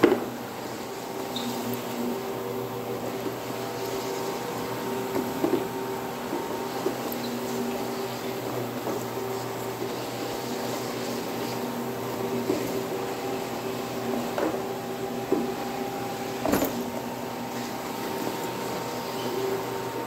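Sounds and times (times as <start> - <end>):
floor machine motor humming: 0.0 - 20.0.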